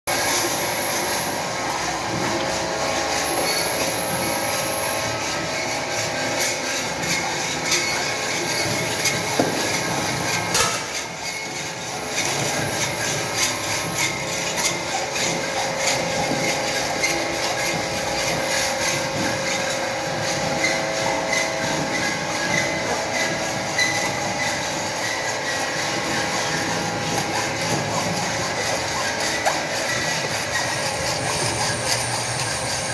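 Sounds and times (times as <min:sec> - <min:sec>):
metal scraping and grinding: 0:00.1 - 0:32.9.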